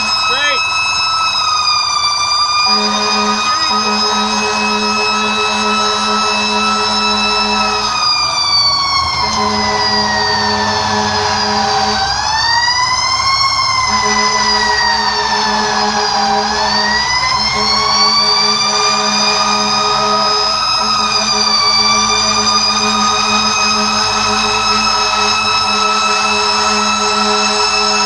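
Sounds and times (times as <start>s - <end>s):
fire engine siren wailing: 0.0s - 28.0s
truck engine drone: 0.0s - 28.0s.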